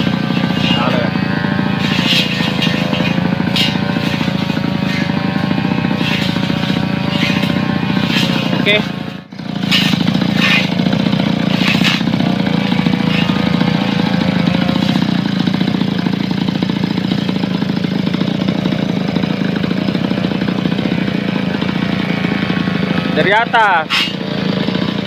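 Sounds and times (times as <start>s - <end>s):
brush cutter engine running: 0.0s - 25.0s.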